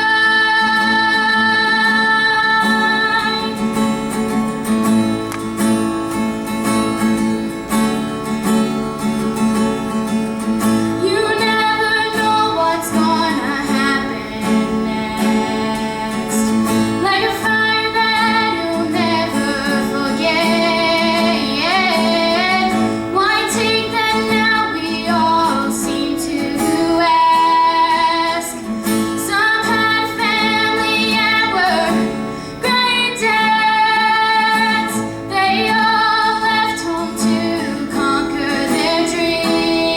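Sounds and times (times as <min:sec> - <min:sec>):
woman singing: 0:00.0 - 0:04.3, 0:10.8 - 0:39.9
guitar accompaniment: 0:00.0 - 0:39.9.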